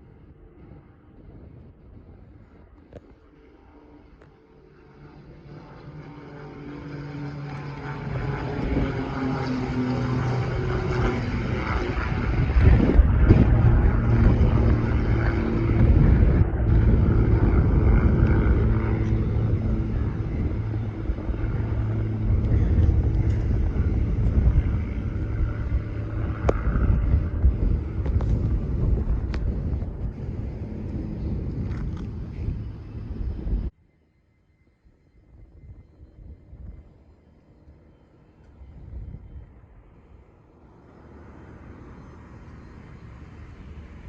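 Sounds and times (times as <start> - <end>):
airplane engines droning: 0.0 - 44.0.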